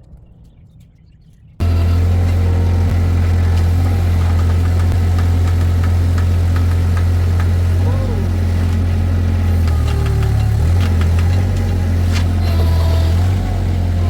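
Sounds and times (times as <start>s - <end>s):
engine idling with ticking: 1.6s - 14.0s
faint clicks: 1.7s - 13.6s.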